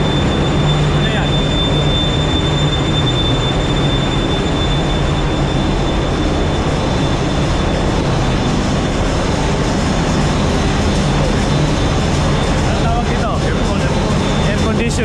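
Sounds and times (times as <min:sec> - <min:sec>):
engine room machinery rumble: 0:00.0 - 0:15.0
high whine: 0:00.0 - 0:15.0.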